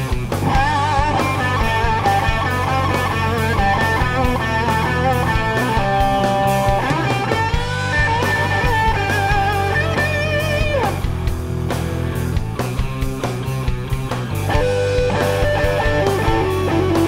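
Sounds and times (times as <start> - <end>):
electric guitar lead with vibrato: 0.0 - 12.4, 13.7 - 17.0
rock bass and drums: 0.0 - 17.0.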